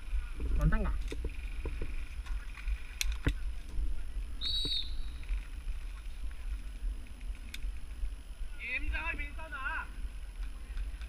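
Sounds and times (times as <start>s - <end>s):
wind on camera microphone: 0.0s - 11.0s.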